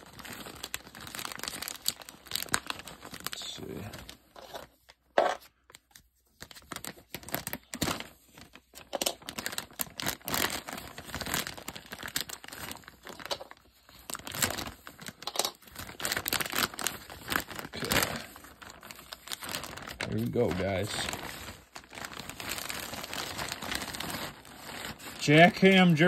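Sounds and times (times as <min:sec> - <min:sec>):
plastic bag tearing and crinkling: 0:00.0 - 0:04.8, 0:06.4 - 0:26.0.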